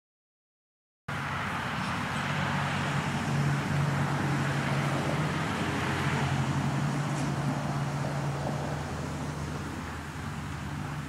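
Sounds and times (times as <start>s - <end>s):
car running with hum and hiss: 1.1s - 11.0s.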